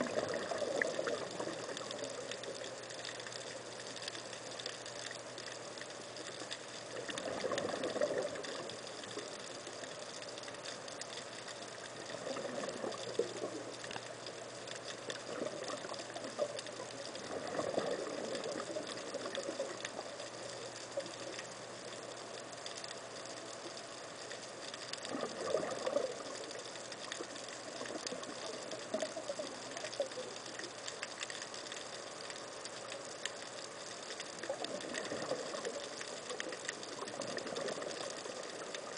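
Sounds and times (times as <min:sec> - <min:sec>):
faint steady hiss: 0:00.0 - 0:38.9
scuba exhaled bubbles underwater: 0:00.0 - 0:38.9.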